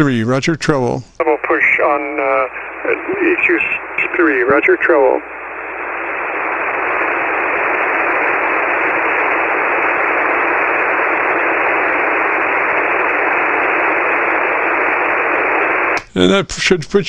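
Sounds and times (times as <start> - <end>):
radio band noise hiss: 0.0 - 17.0.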